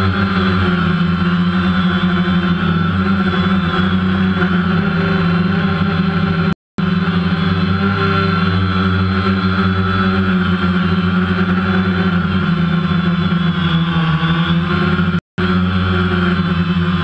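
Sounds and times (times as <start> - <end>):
drone propellers whirring: 0.0 - 17.0.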